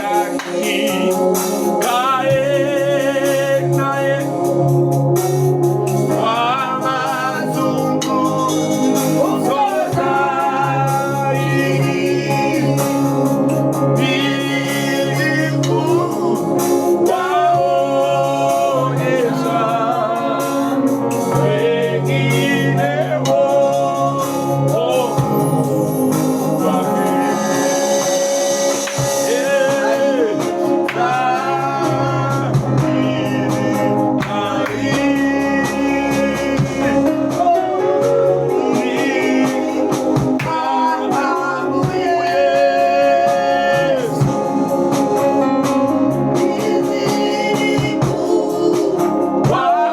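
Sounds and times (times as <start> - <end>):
person singing: 0.0 - 4.5, 6.1 - 44.8, 46.2 - 49.9
gospel band playing: 0.0 - 49.9
percussion beat: 0.0 - 49.9.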